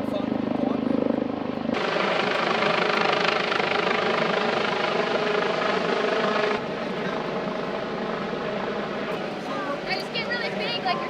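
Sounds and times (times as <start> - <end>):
helicopter rotor and engine: 0.0 - 11.0.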